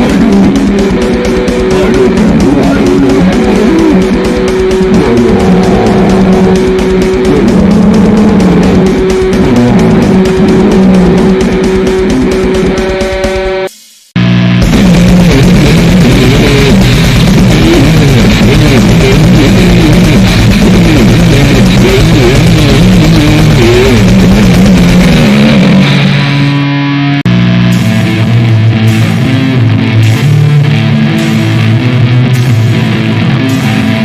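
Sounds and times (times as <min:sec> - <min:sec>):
fast drumming: 0:00.0 - 0:14.0, 0:14.6 - 0:26.5, 0:27.7 - 0:34.0
distorted guitar riffing: 0:00.0 - 0:34.0.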